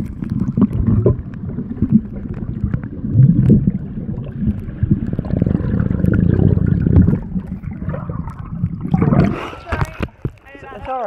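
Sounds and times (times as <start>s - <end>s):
underwater bubbling: 0.0s - 11.0s.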